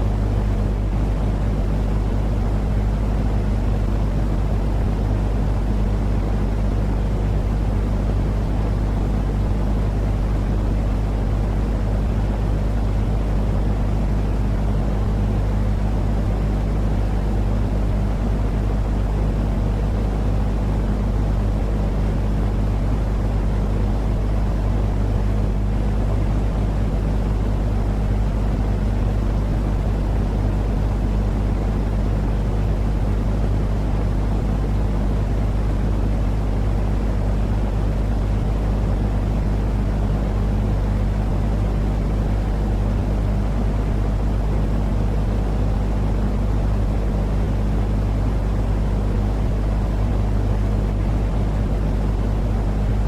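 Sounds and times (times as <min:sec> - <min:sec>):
low rumbling noise with hum: 0:00.0 - 0:53.0.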